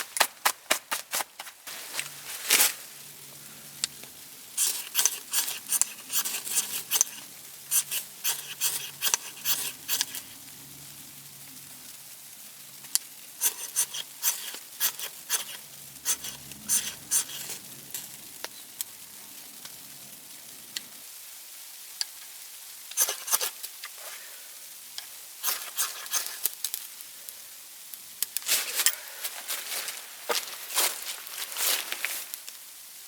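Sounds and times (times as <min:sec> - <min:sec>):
wood fire crackling: 0:01.6 - 0:33.0.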